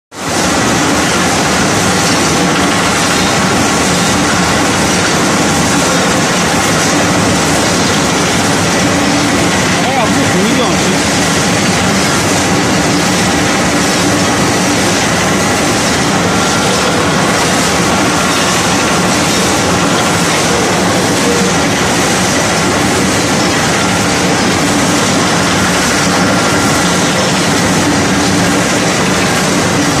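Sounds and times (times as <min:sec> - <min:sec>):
pellet mill machine din: 0:00.2 - 0:30.0.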